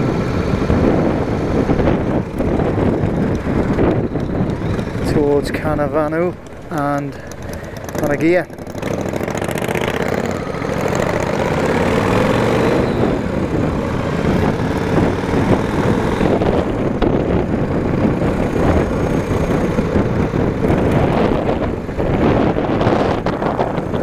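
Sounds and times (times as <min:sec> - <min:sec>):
motorcycle engine running: 0:00.0 - 0:24.0
road noise: 0:00.0 - 0:24.0
wind noise on microphone: 0:00.0 - 0:24.0.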